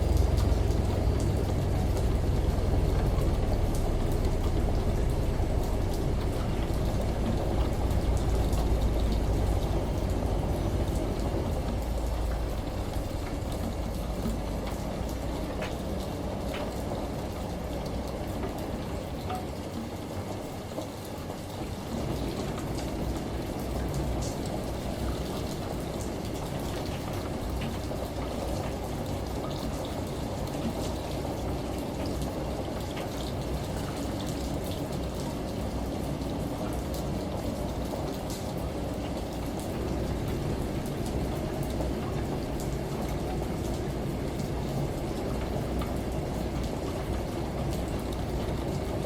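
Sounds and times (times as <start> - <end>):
rain: 0.0 - 49.0
shower running: 0.0 - 49.0
washing machine: 0.0 - 49.0
water drip ticks: 0.0 - 49.0.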